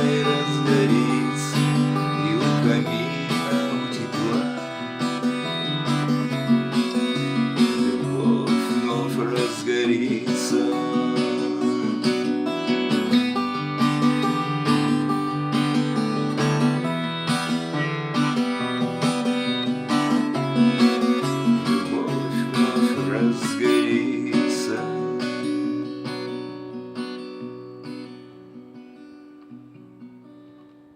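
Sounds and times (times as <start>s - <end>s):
acoustic guitar music: 0.0s - 30.9s.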